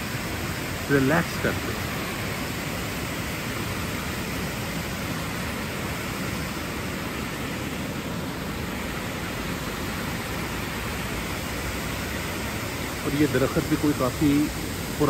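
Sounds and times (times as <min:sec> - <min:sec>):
water rushing down waterfall: 0:00.0 - 0:15.0.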